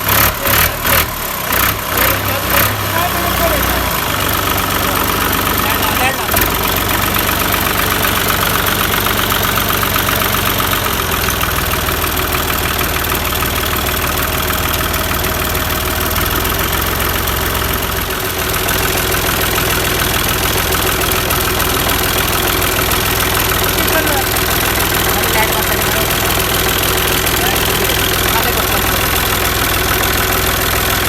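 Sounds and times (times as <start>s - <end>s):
diesel tractor engine idling: 0.0s - 31.0s.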